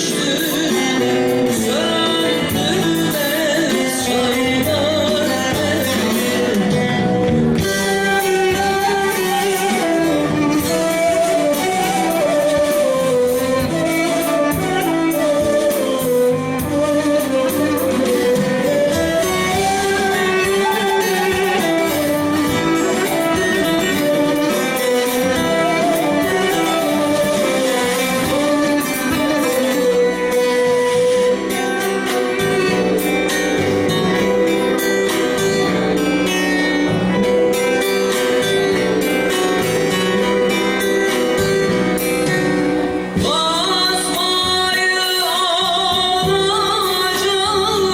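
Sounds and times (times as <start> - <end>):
folk band playing: 0.0 - 47.9.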